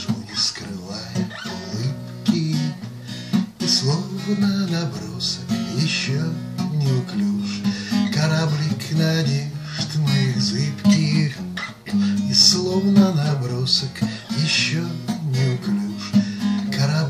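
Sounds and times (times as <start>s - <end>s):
man singing: 0.0s - 17.0s
strummed acoustic guitar: 0.0s - 17.0s.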